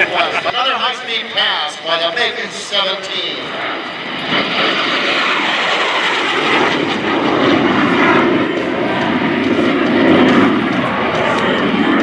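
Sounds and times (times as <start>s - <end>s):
jet engine roaring past: 0.0s - 12.0s.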